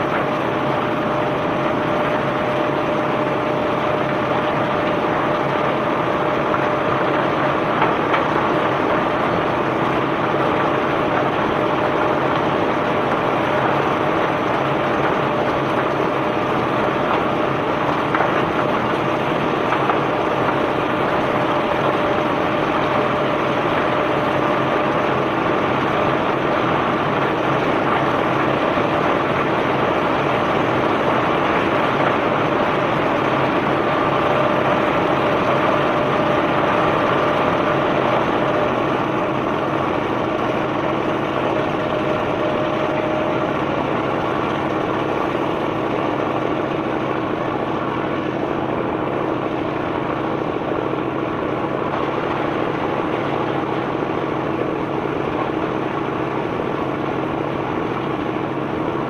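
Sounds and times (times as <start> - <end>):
heavy machinery running: 0.0 - 59.0.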